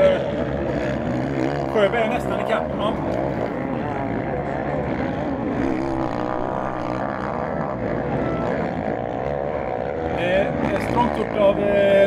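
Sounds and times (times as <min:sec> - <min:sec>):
motocross engines revving: 0:00.0 - 0:12.0.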